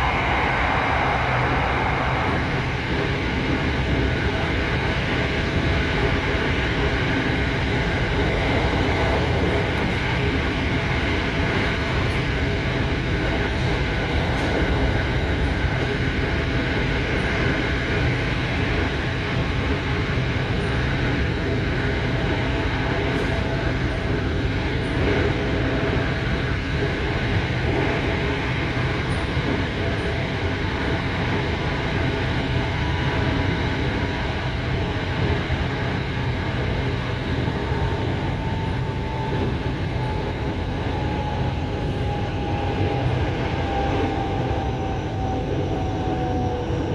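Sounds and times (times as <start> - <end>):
electric train rumbling: 0.0 - 46.9.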